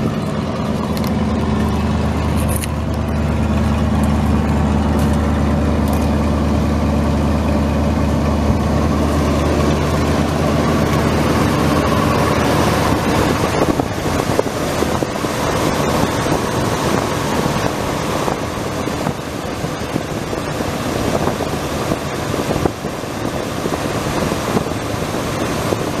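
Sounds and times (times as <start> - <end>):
truck engine idling: 0.0 - 26.0
wind on microphone: 0.0 - 26.0.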